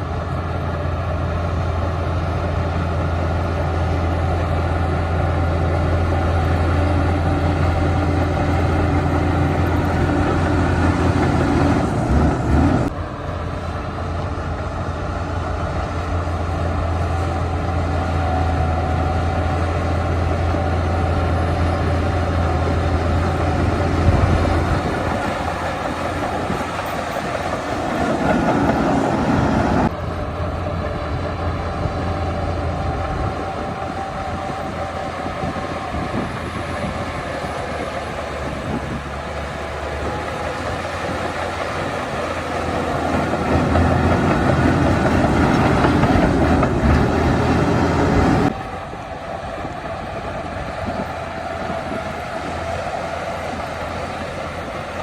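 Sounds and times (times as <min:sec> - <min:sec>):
diesel engine running: 0:00.0 - 0:55.0
steel tracks clattering: 0:00.0 - 0:55.0.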